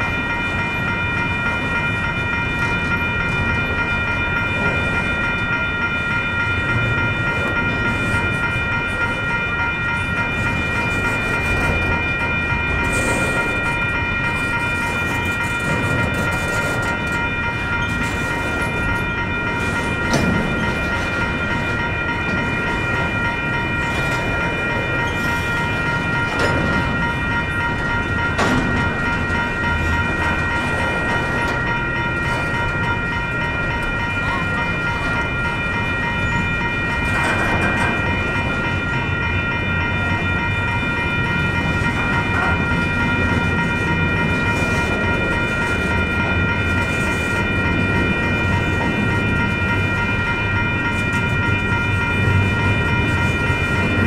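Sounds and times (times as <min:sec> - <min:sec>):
freight train rumbling: 0:00.0 - 0:54.0
high-pitched ringing tone: 0:00.0 - 0:54.0.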